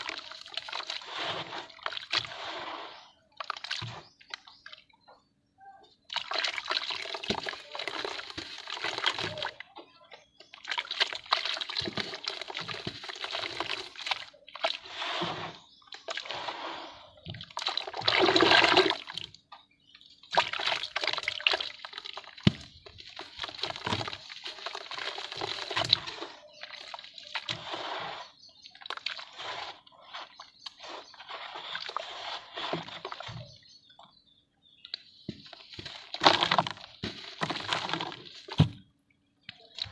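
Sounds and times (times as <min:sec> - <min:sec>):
water sloshing: 0:00.0 - 0:04.9, 0:06.1 - 0:09.6, 0:10.5 - 0:19.4, 0:20.0 - 0:34.1, 0:34.8 - 0:39.9
wet dirt crumbling and crackling: 0:00.0 - 0:05.2, 0:06.0 - 0:09.6, 0:10.2 - 0:39.9.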